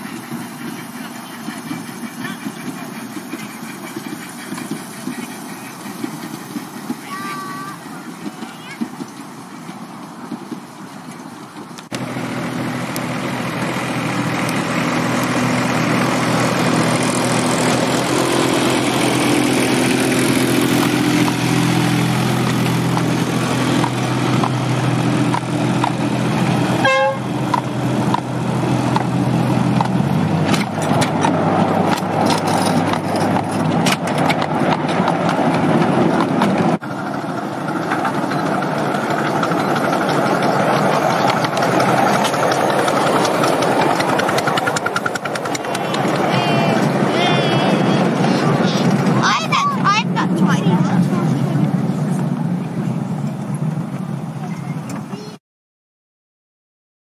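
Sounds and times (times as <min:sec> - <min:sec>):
miniature train engine drone: 0:00.0 - 0:55.4
small steam locomotive: 0:00.0 - 0:55.4
wheels clicking on rails: 0:00.0 - 0:55.4.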